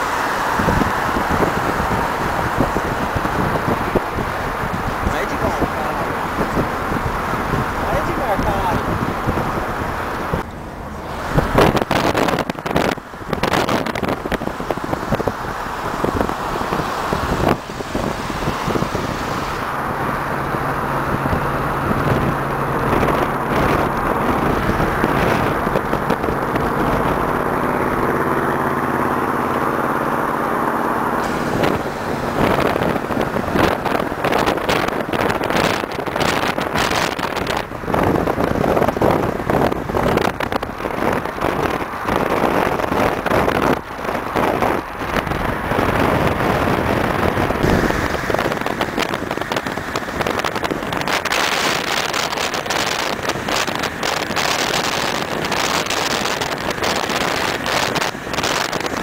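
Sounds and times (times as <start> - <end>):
car engines running: 0.0 - 59.0
road noise: 0.0 - 59.0
rushing noise: 0.0 - 59.0
steady engine hum: 0.0 - 59.0.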